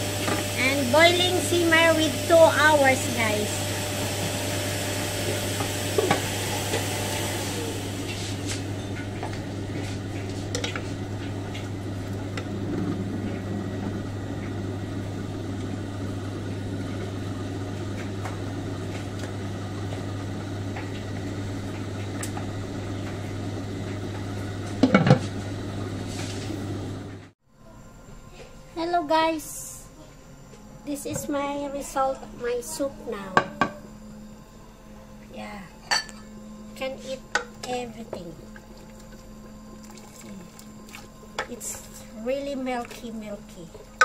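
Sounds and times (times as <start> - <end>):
low hum and hiss: 0.0 - 44.0.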